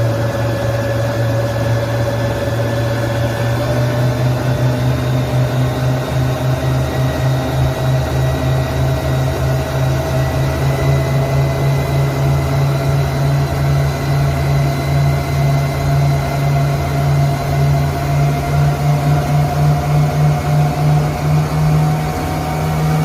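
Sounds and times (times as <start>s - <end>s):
motor whine: 0.0s - 23.0s
outboard motor running: 0.0s - 23.0s.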